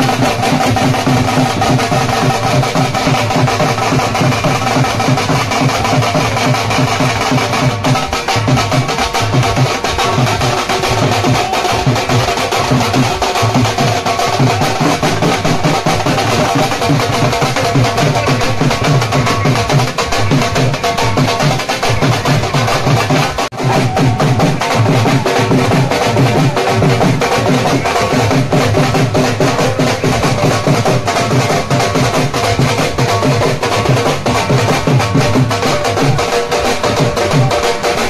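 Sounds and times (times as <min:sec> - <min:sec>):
dhol drums beating fast: 0:00.0 - 0:38.0.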